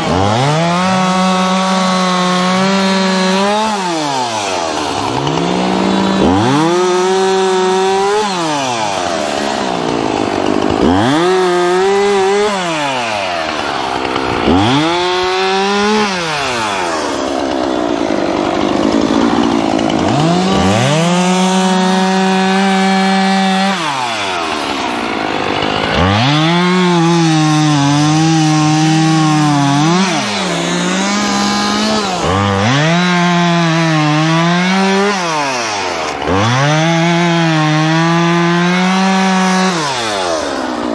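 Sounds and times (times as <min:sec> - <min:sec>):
chainsaw cutting wood: 0:00.0 - 0:40.9
chainsaw revving: 0:00.0 - 0:40.9.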